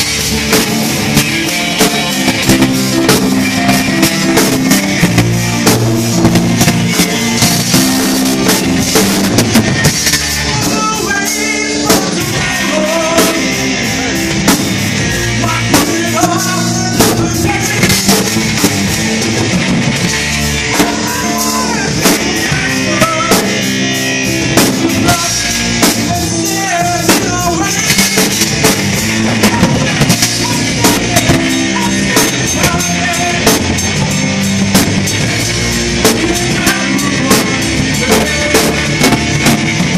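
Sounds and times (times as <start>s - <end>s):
drum kit beat: 0.0s - 39.9s
electric guitar: 0.0s - 39.9s
keyboards: 0.0s - 39.9s
person singing: 1.0s - 19.4s, 20.2s - 39.9s.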